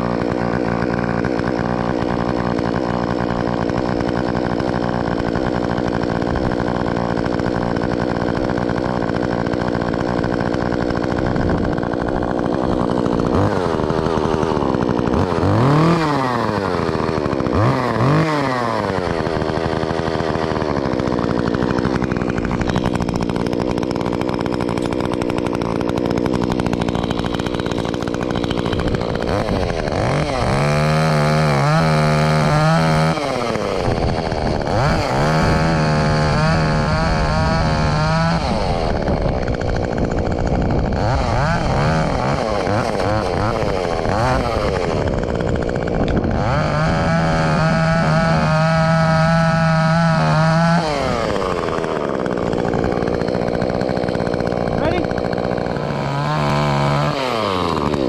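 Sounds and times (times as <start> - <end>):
chainsaw idling and revving: 0.0 - 58.0.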